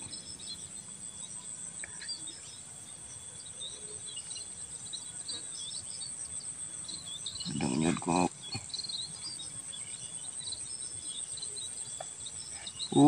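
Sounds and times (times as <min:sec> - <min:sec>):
insects trilling: 0:00.0 - 0:13.0
small bird chirps: 0:00.0 - 0:13.0.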